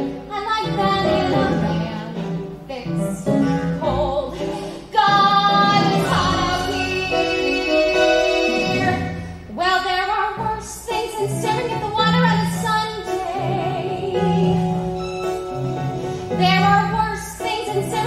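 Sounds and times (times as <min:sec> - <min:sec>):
woman singing with vibrato: 0:00.0 - 0:15.0
instrumental accompaniment: 0:00.0 - 0:18.0.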